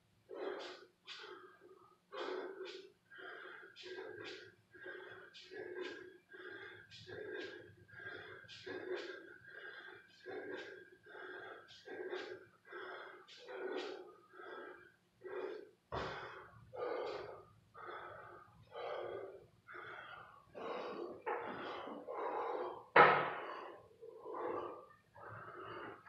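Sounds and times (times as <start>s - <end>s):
man panting hard: 0.3s - 26.0s.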